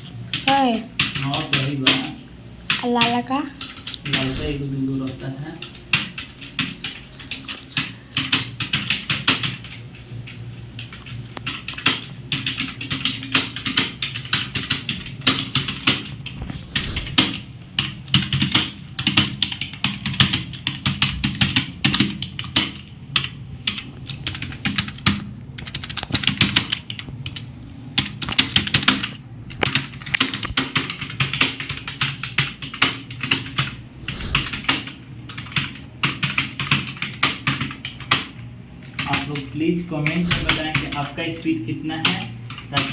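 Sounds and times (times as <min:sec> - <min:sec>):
fast keyboard typing: 0:00.3 - 0:42.9.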